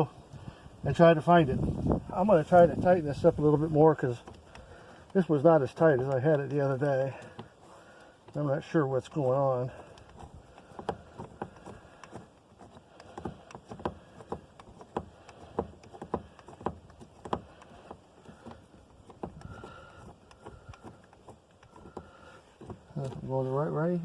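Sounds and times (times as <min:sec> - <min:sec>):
metal clicks and knocks of winch: 0:02.6 - 0:23.4.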